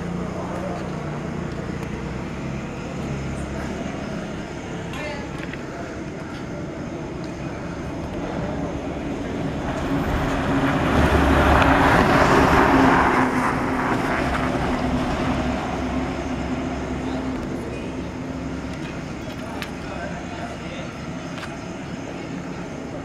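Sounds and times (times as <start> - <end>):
large vehicle passing: 0.0 - 23.0
steady engine hum: 0.0 - 23.0.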